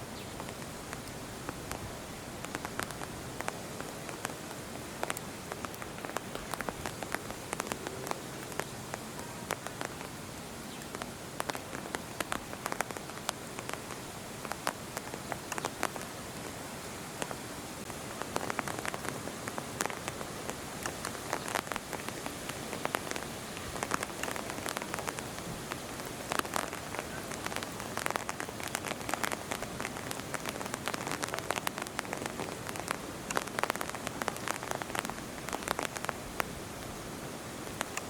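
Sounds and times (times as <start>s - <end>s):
rain drops ticking on surface: 0.0s - 38.0s
steady rain hiss: 0.0s - 38.0s.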